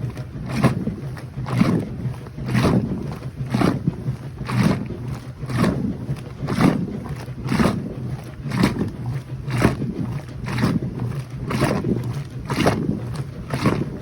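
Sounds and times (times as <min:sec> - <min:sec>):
washing machine motor hum: 0:00.0 - 0:14.0
water and clothes sloshing: 0:00.0 - 0:14.0.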